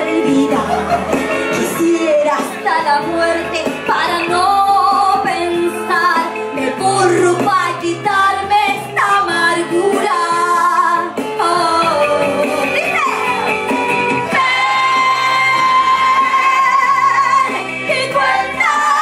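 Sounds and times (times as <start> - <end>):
woman singing: 0.0 - 0.9, 1.6 - 19.0
instrumental backing music: 0.0 - 19.0.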